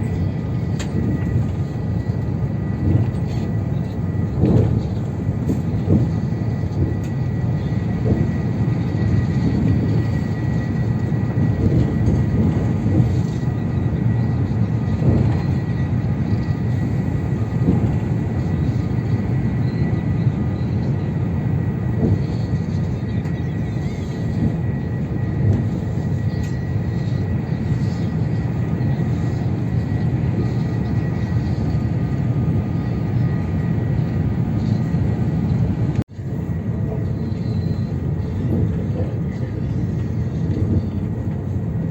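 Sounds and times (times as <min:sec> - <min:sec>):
high-speed train rumbling: 0:00.0 - 0:41.9.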